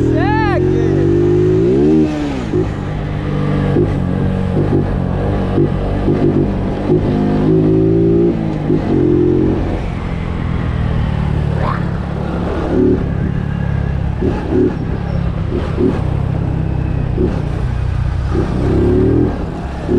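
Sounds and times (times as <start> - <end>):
steady rushing noise: 0.0 - 19.9.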